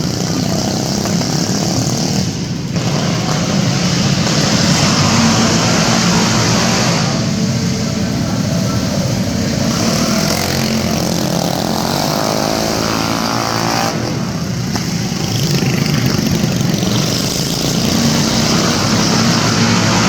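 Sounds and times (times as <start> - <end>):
small engines revving: 0.0 - 20.0.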